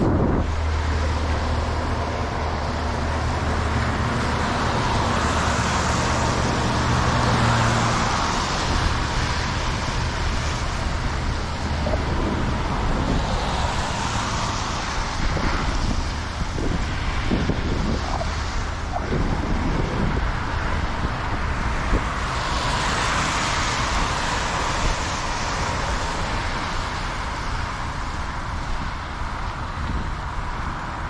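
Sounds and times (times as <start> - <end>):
cars passing: 0.0 - 31.0
tyre noise on slushy road: 0.0 - 31.0.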